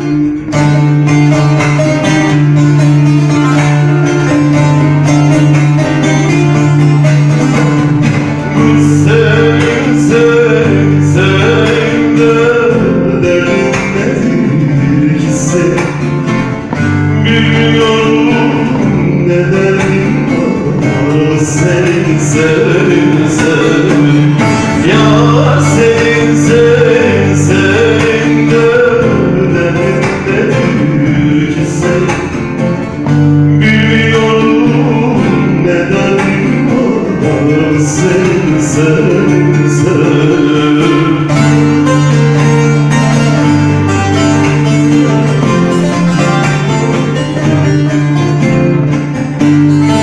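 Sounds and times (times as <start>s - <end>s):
man singing: 0.0s - 48.9s
strummed lute: 0.0s - 50.0s.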